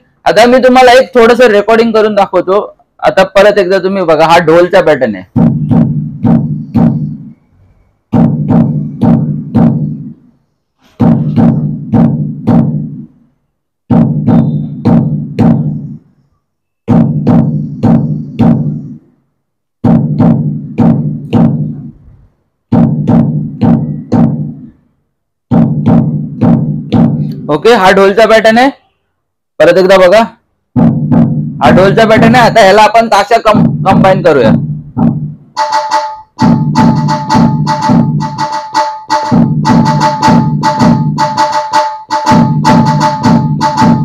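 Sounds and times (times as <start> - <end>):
electronic dhol drumming: 0.3 - 13.3, 13.9 - 16.1, 16.8 - 19.2, 19.8 - 22.0, 22.7 - 24.8, 25.5 - 28.6, 29.9 - 44.0.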